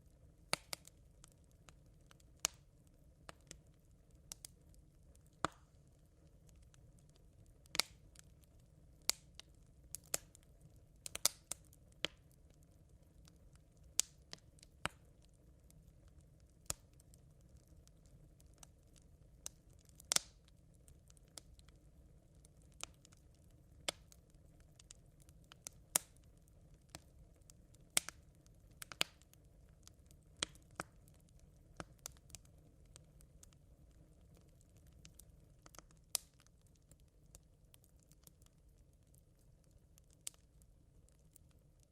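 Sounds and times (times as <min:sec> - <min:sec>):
campfire embers crackling: 0:00.0 - 0:41.9
faint low background noise: 0:00.0 - 0:41.9.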